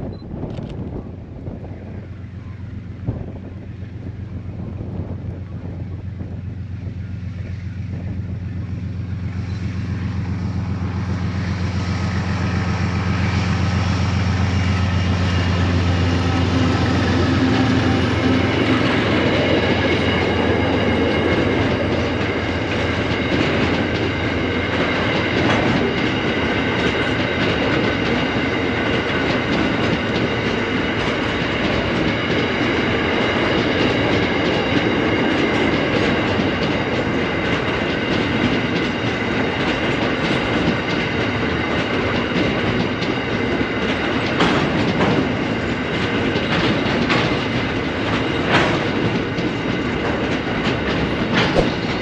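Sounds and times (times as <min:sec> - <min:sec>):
locomotive engine hum: 0:00.0 - 0:52.0
high ringing wheel on rail: 0:00.9 - 0:52.0
wheels clickety-clack: 0:07.5 - 0:52.0.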